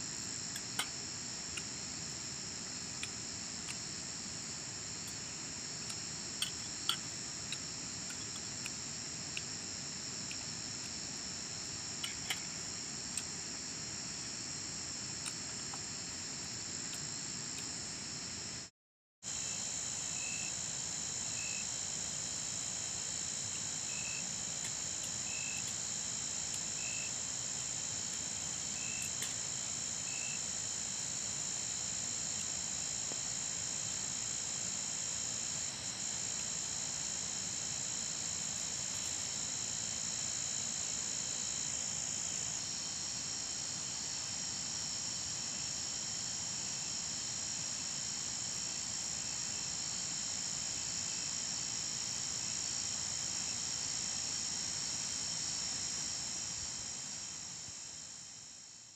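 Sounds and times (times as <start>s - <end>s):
short insect chirp: 0.1s - 18.4s, 19.3s - 58.9s.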